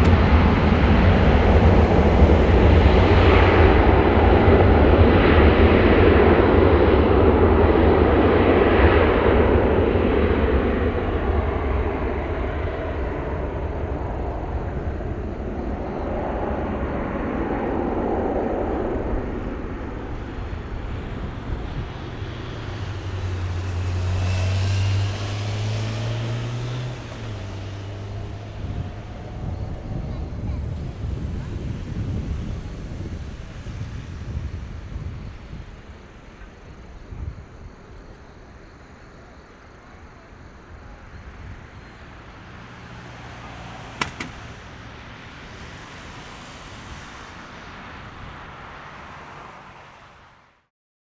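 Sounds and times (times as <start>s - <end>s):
jet engine roaring at takeoff: 0.0s - 50.7s.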